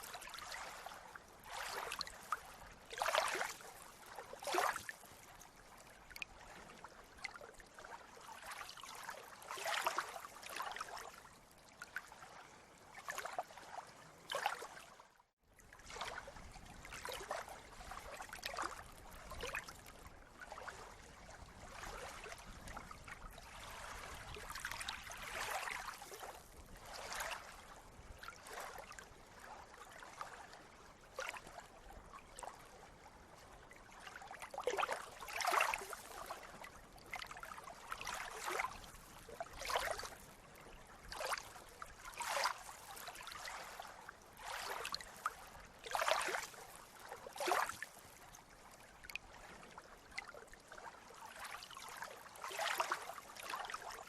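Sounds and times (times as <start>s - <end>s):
water lapping and splashing: 0.0s - 54.0s.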